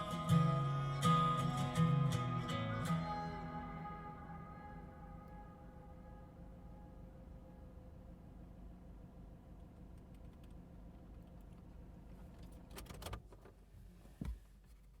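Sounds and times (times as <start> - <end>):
low vehicle rumble: 0.0 - 12.7.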